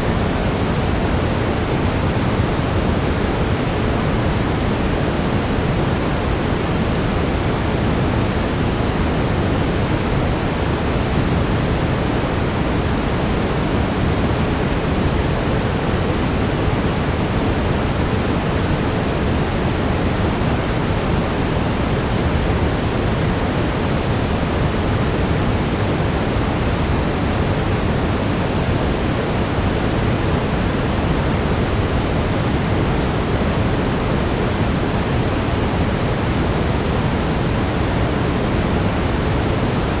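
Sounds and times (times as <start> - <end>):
brown noise: 0.0 - 40.0.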